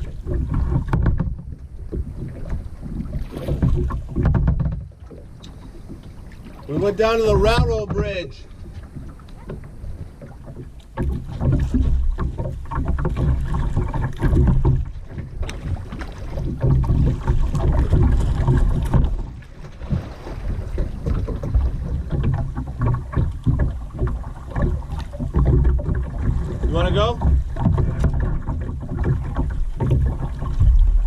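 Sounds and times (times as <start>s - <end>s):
paddle splashing in water: 0.0s - 31.0s
wind rumble on microphone: 0.0s - 31.0s.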